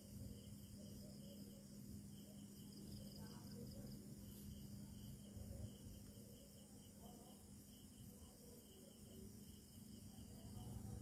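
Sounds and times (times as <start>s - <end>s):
night insects chirping: 0.0s - 11.0s.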